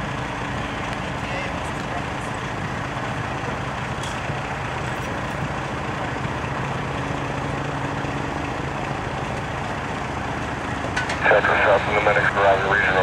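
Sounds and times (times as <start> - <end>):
engine idling low hum: 0.0 - 13.0.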